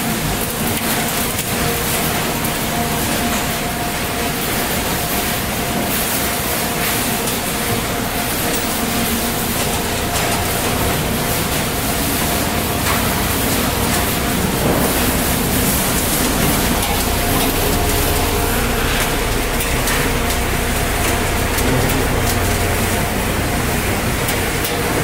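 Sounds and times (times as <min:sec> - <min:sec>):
conveyor machinery rumble: 0:00.0 - 0:25.0.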